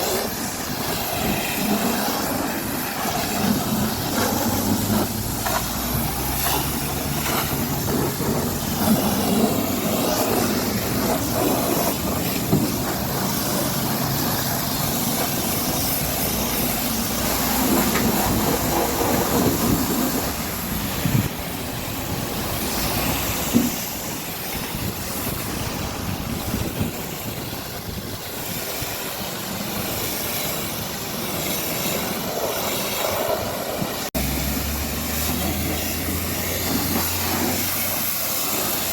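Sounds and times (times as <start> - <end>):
high-pressure water jet spraying: 0.0 - 38.9.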